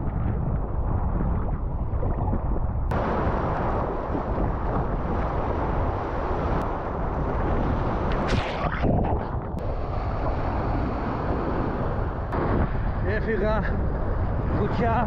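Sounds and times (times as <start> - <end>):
surf waves breaking: 0.0 - 15.0
wave washing over microphone: 0.0 - 15.0
wind on microphone: 0.0 - 15.0.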